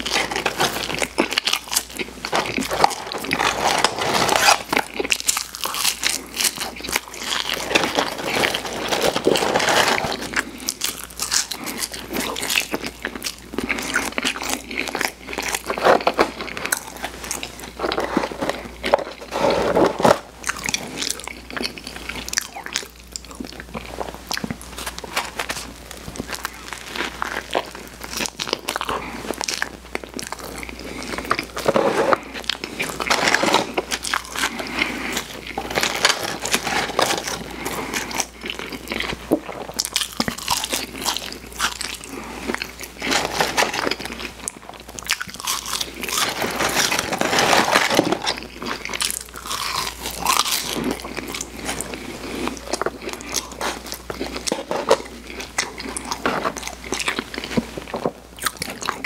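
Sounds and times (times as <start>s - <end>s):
biting and wet chewing: 0.0s - 59.0s.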